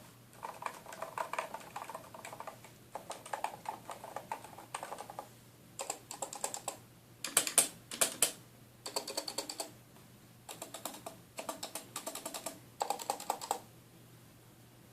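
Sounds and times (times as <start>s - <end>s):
typing on keyboard: 0.3s - 9.7s, 10.5s - 13.6s.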